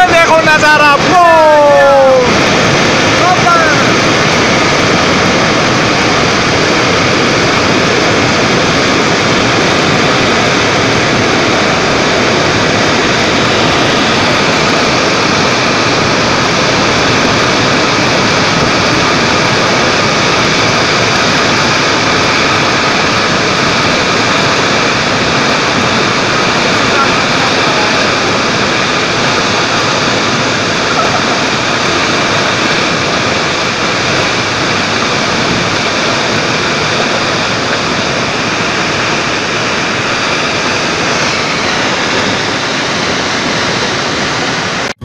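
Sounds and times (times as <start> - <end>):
muddy water and rock rushing: 0.0 - 44.9.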